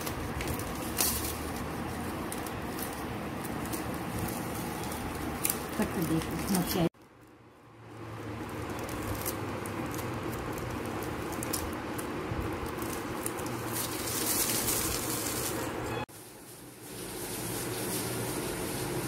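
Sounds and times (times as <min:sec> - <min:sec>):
newspaper rustling: 0:00.0 - 0:07.0, 0:08.3 - 0:19.0.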